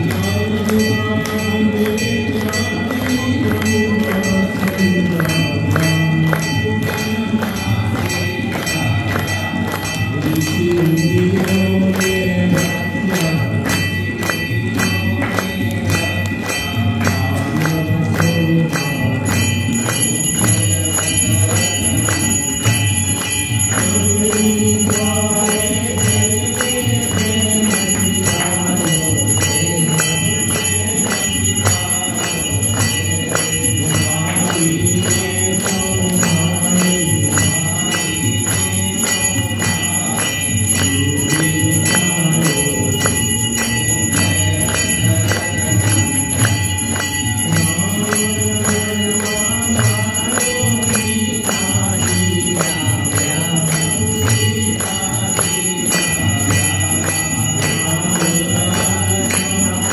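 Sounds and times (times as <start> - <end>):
devotional melody: 0.0 - 59.9
temple bells ringing: 0.0 - 59.9.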